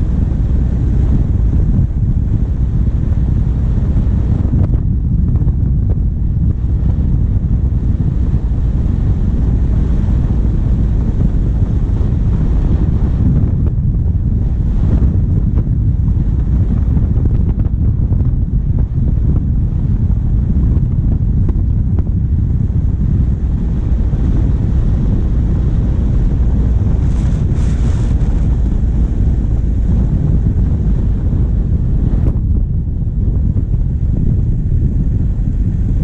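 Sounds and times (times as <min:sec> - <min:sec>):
diesel engine running: 0:00.0 - 0:36.0
wind buffeting microphone: 0:00.0 - 0:36.0.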